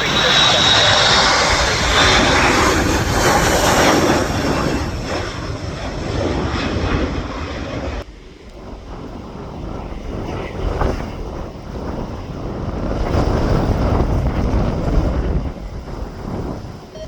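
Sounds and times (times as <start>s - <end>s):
aircraft engines passing: 0.0s - 17.0s
wind noise on microphone: 0.0s - 17.0s.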